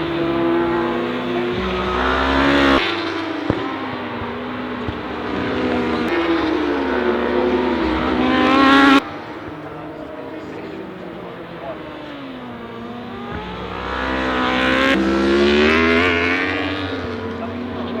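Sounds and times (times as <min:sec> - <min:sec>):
racing motorcycle engines at high revs: 0:00.0 - 0:18.0.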